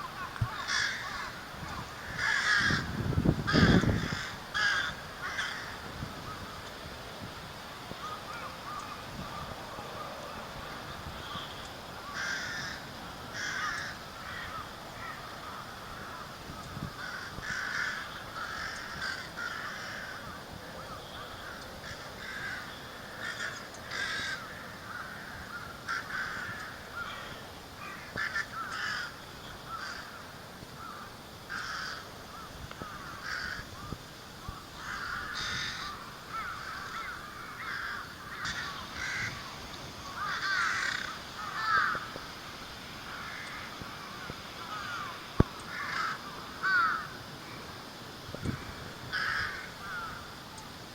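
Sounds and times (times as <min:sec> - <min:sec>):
crows cawing: 0:00.0 - 0:06.6, 0:07.9 - 0:42.4, 0:43.0 - 0:47.7, 0:48.5 - 0:50.4.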